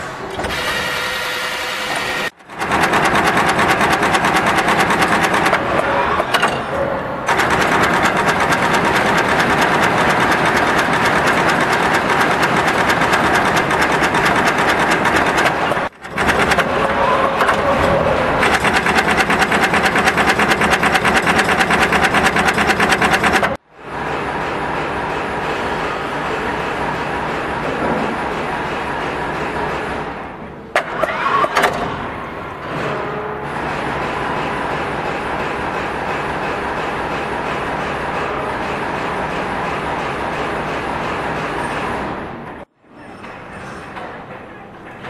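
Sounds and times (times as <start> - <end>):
machine mechanical clatter: 0.0 - 45.0.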